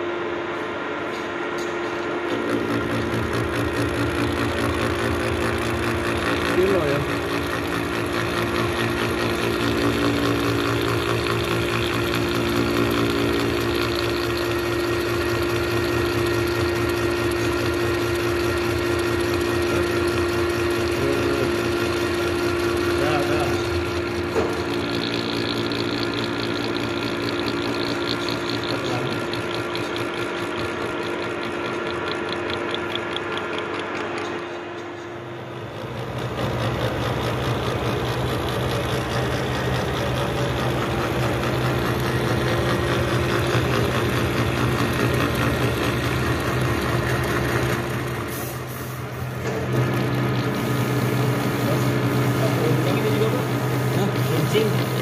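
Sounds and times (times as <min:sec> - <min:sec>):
milling machine cutting metal: 0:01.2 - 0:55.0.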